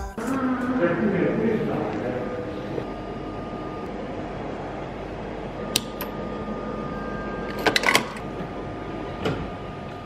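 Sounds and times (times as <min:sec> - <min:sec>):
vending machine humming: 0:00.0 - 0:10.0.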